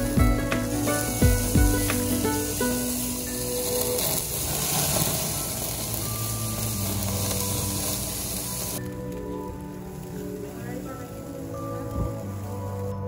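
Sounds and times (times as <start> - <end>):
background music: 0.0 - 13.0
patties sizzling on grill: 0.0 - 13.0.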